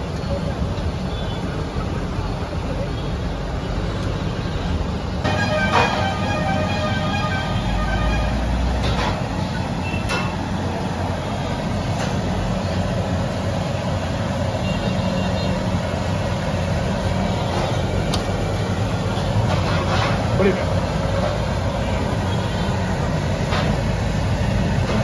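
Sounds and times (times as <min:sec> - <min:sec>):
deep-frying hiss and rumble: 0:00.0 - 0:05.3, 0:08.1 - 0:25.0.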